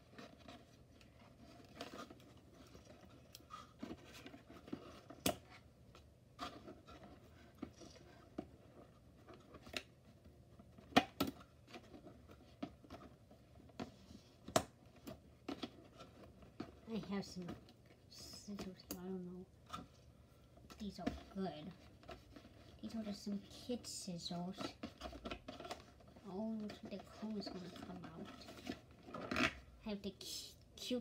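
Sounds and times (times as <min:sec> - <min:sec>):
cardboard rustling: 0:00.0 - 0:29.6.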